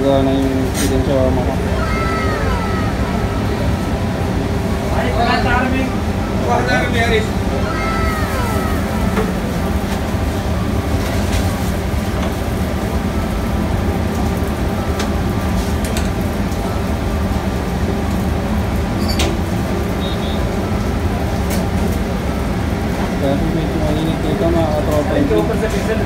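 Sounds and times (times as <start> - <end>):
kitchen machinery drone: 0.0 - 26.0.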